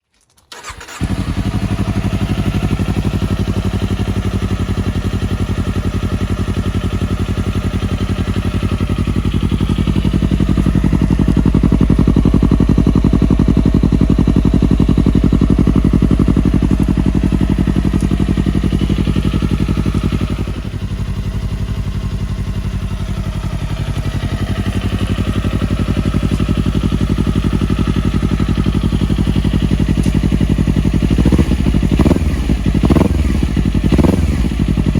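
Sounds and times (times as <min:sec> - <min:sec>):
motorcycle engine idling: 0:00.6 - 0:34.9.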